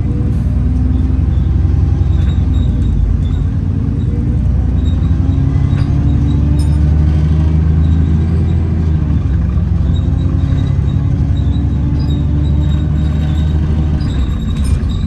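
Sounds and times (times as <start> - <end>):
bus engine drone inside cabin: 0.0 - 15.0.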